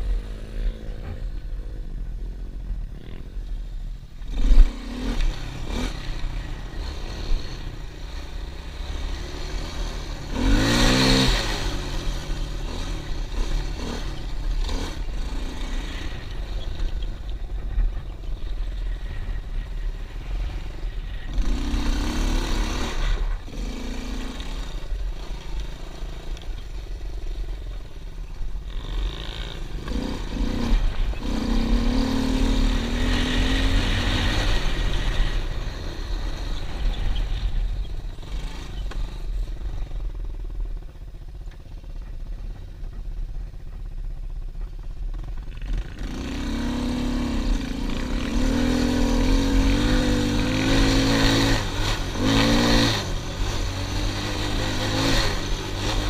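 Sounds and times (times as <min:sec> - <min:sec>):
steady low rumble: 0:00.0 - 0:54.6
pit bike engine revving: 0:04.2 - 0:27.8, 0:28.6 - 0:39.9, 0:45.2 - 0:56.0.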